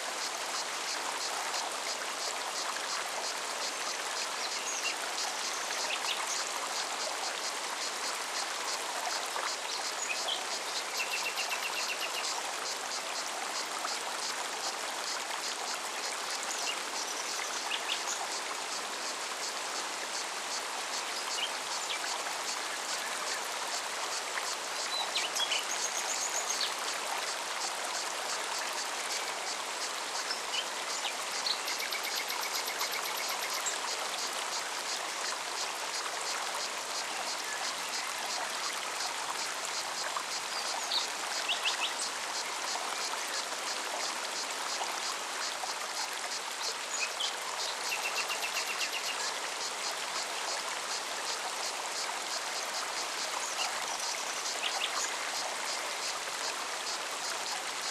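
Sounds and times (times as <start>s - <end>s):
stream flowing: 0.0s - 57.9s
cicada song: 0.2s - 57.9s.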